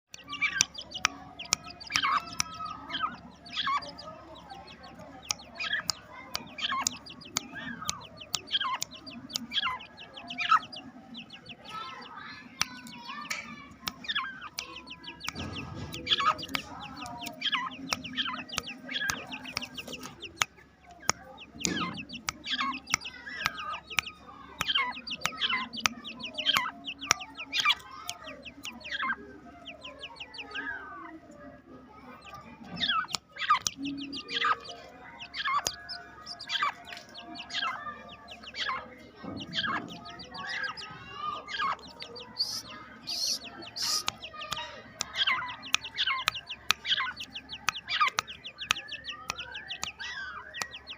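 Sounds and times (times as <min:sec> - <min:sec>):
partridge chicks calling: 0:00.0 - 0:50.9.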